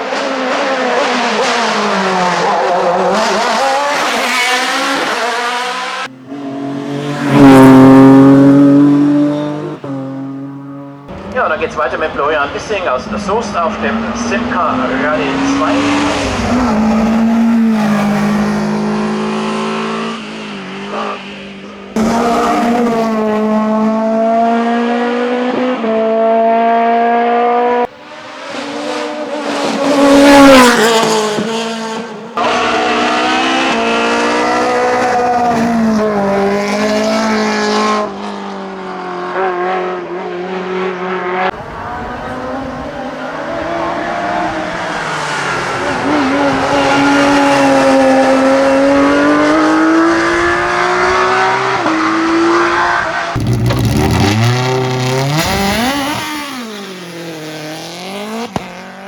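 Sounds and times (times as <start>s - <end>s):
racing car engine at high revs: 0.0s - 59.0s.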